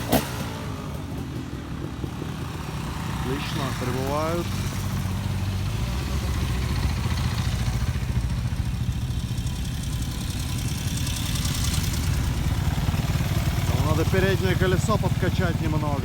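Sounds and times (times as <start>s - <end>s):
motorcycle engine at low speed: 0.0s - 16.0s.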